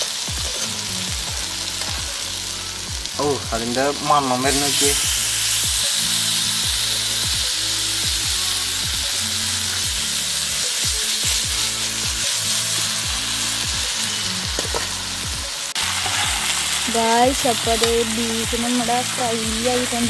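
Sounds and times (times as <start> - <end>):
steaks sizzling in a pan: 0.0 - 20.0
background music with low beat: 0.1 - 20.0.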